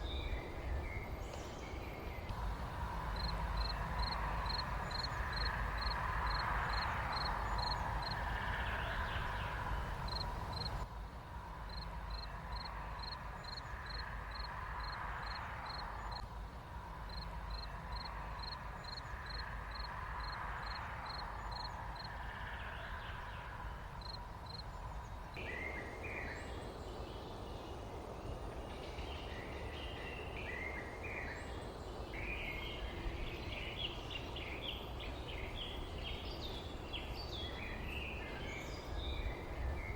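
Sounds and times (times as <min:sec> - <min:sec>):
songbirds chirping: 0:00.0 - 0:39.9
steady low rumble: 0:00.0 - 0:39.9.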